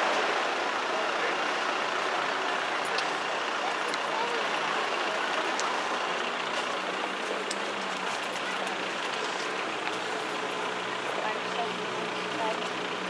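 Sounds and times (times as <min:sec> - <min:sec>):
low engine hum: 0:00.0 - 0:13.0
motor vehicle noise: 0:00.0 - 0:13.0.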